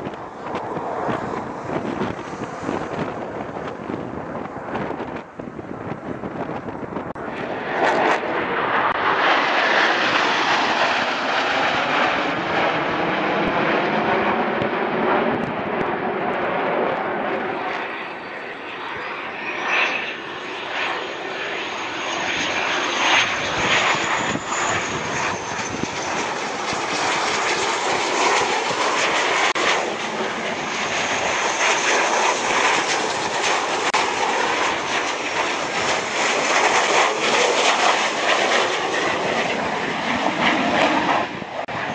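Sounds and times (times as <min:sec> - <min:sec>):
high whine of jet: 0:00.0 - 0:41.9
jet engines passing low: 0:00.0 - 0:41.9.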